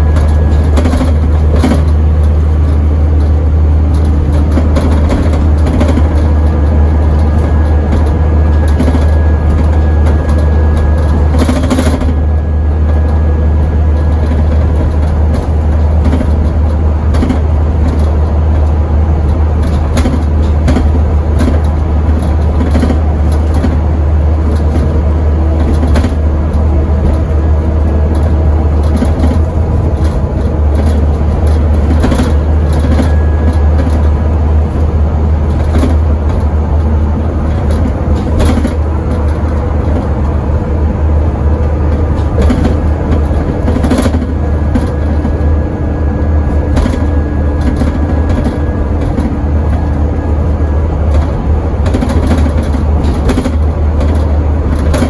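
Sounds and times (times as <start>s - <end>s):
knocks and rattles: 0.0s - 40.6s, 41.6s - 55.0s
bus engine droning: 0.0s - 55.0s.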